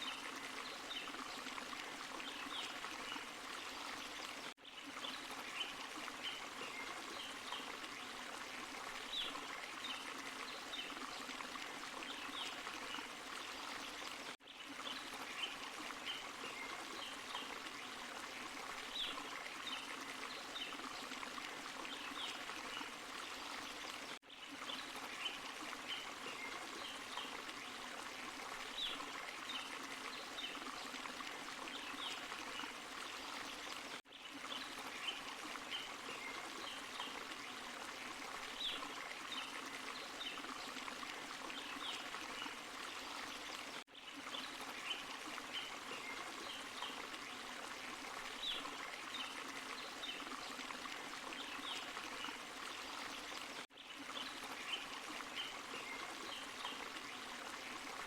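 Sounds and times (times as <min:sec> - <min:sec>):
stream and small waterfall running: 0:00.0 - 0:58.0.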